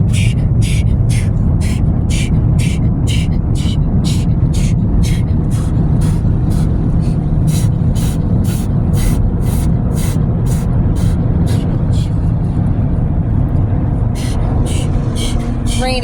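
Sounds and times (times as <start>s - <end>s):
car wash dryer blowers: 0.0s - 16.0s.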